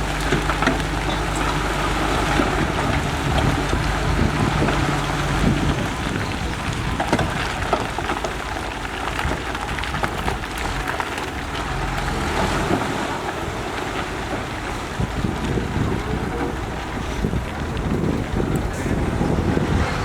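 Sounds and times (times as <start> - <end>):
crackles: 0.0 - 20.0
heavy machinery engine running: 0.0 - 20.0.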